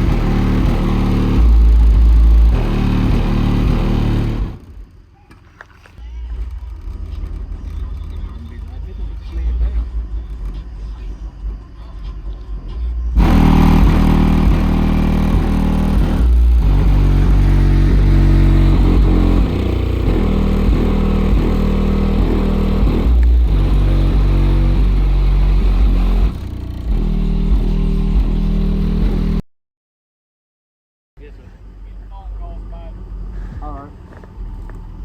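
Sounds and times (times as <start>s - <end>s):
bass-heavy music from car speakers: 0.0s - 4.6s, 6.0s - 29.4s
low rumble of car: 0.0s - 29.4s, 31.2s - 35.0s.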